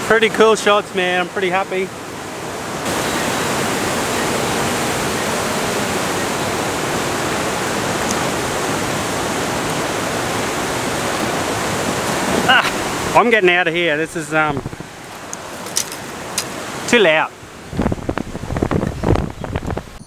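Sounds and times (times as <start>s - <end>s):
water rushing over a weir: 0.0s - 19.3s.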